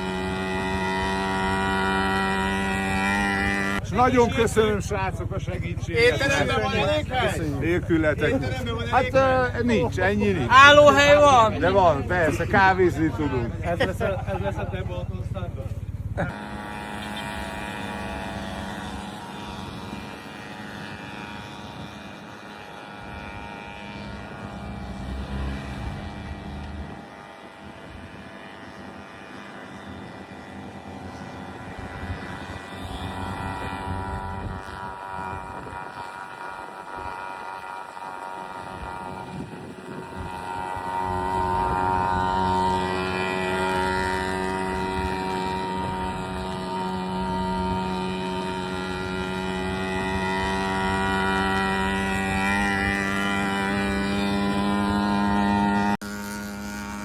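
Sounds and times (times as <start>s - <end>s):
moped engine buzzing: 0.0s - 57.0s.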